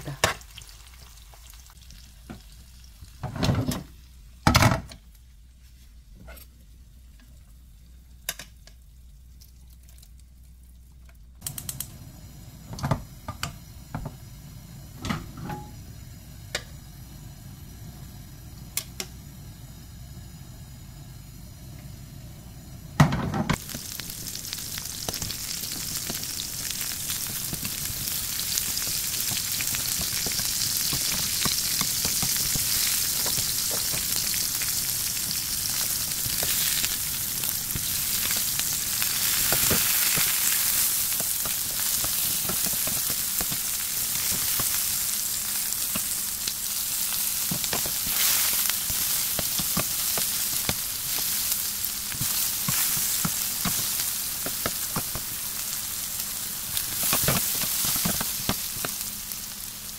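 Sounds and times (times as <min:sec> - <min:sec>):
food sizzling in a pan: 0:00.0 - 0:04.5, 0:11.4 - 0:59.9.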